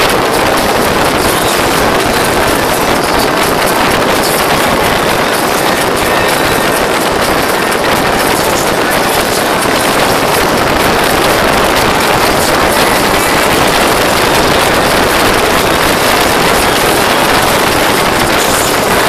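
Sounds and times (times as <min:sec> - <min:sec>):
boat engine: 0:00.0 - 0:19.0
water rushing: 0:00.0 - 0:19.0
wind buffeting microphone: 0:00.0 - 0:19.0.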